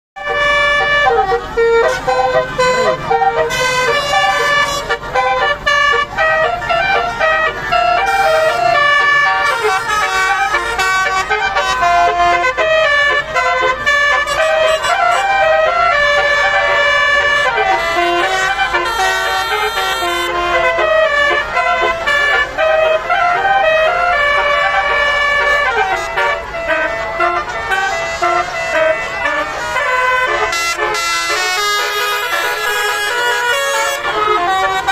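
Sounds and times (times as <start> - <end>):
bus air horn melody: 0.2 - 34.9.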